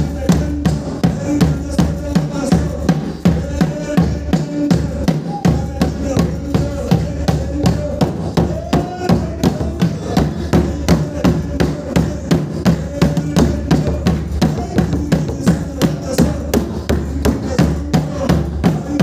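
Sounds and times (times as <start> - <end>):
fast drum beat: 0.0 - 19.0
person singing: 0.0 - 19.0.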